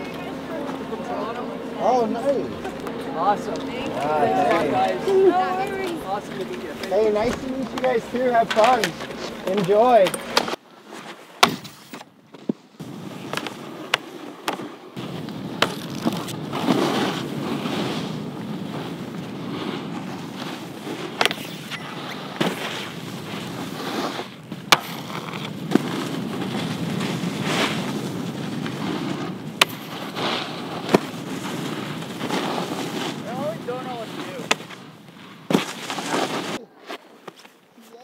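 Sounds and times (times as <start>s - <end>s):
snowboard scraping over snow: 0.0s - 11.9s, 12.8s - 38.0s.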